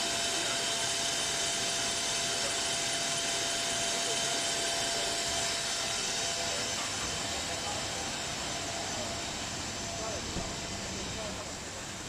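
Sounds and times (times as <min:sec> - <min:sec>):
thin steady whine: 0:00.0 - 0:12.0.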